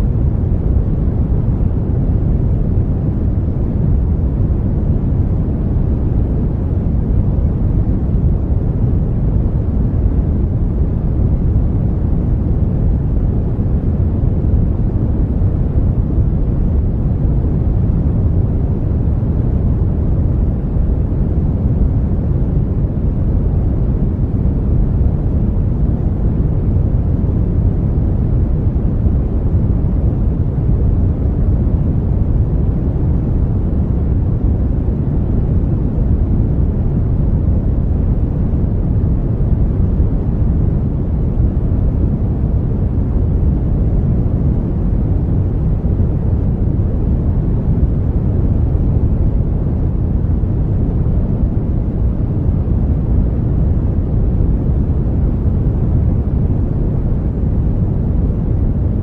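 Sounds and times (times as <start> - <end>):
deep rushing brown noise: 0.0 - 59.0.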